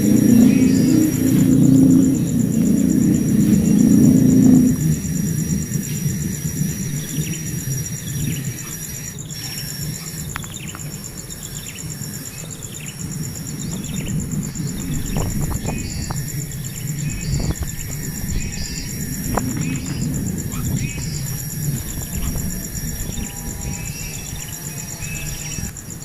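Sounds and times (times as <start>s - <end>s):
low background rumble: 0.0s - 25.9s
pulsing insect trill: 0.0s - 26.0s.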